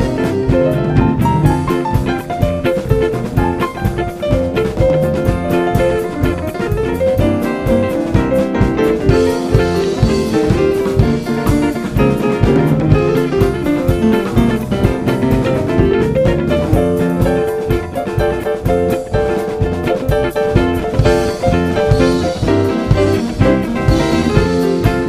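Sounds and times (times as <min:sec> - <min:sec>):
drum kit beat: 0:00.0 - 0:25.0
live band playing jazzy music: 0:00.0 - 0:25.0.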